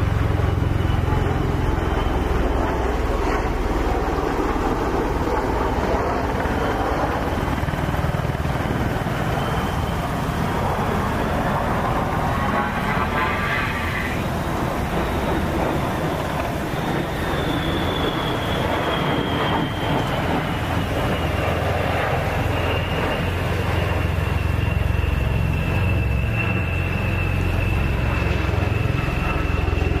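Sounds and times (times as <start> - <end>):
turbine whine: 0.0 - 30.0.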